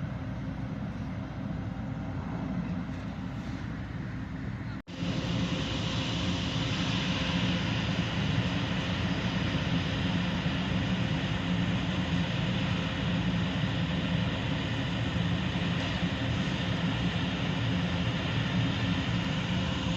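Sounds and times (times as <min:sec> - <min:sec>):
electric train running: 0:00.0 - 0:19.9.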